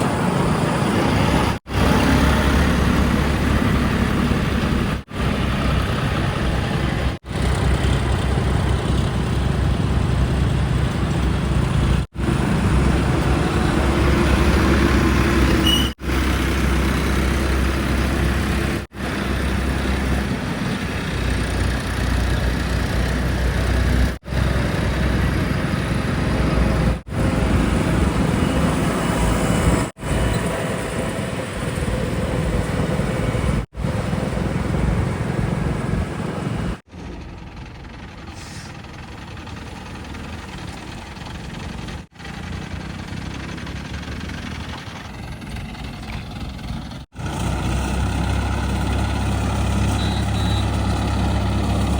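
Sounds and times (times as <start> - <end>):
heavy diesel engines running: 0.0 - 51.9.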